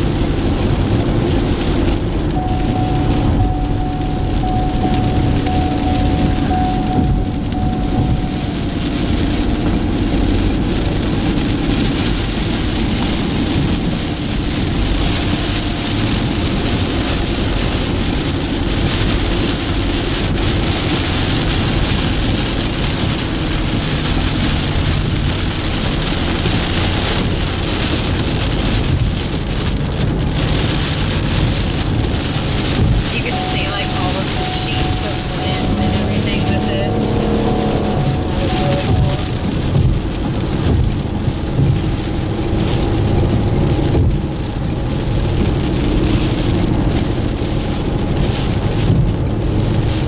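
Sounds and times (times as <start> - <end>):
heavy rain hitting a car: 0.0 - 50.0
road and engine noise: 0.0 - 50.0.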